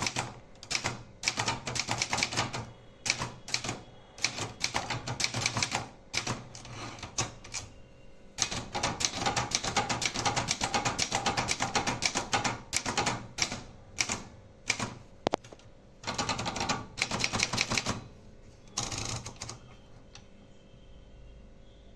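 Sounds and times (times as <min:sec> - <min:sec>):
typewriter keystroke clacks: 0:00.0 - 0:07.7, 0:08.4 - 0:18.0, 0:18.8 - 0:19.6.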